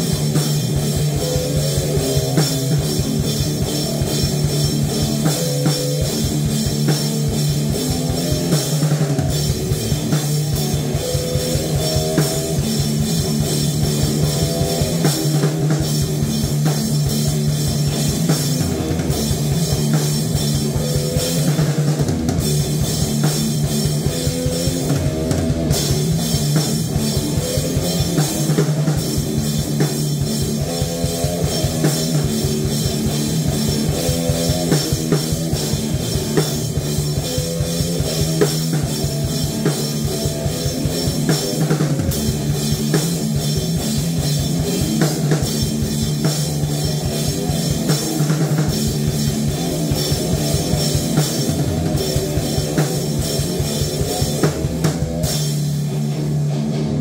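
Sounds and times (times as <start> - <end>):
drum kit rapid hits: 0.0 - 57.0
electric guitar riffs: 0.0 - 57.0.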